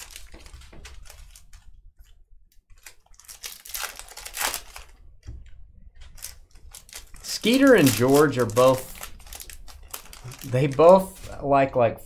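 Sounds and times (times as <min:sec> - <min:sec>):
wrappers crinkling and tearing: 0:00.0 - 0:05.0, 0:06.1 - 0:11.3.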